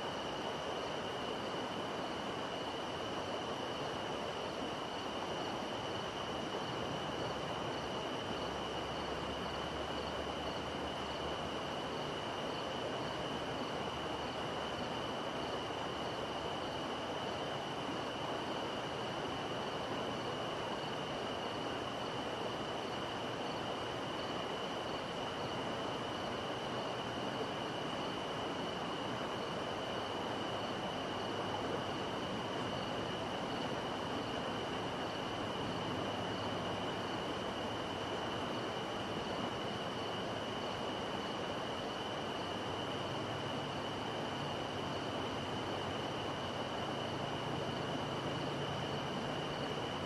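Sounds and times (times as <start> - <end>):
high insect trill: 0.0 - 50.0.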